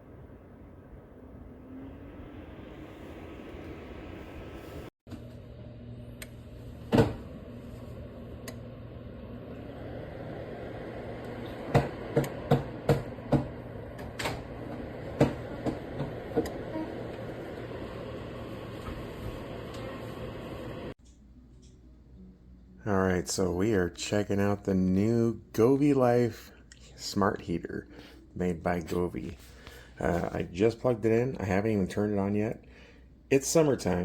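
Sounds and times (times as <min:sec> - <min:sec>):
electric fan humming: 0:00.0 - 0:34.0.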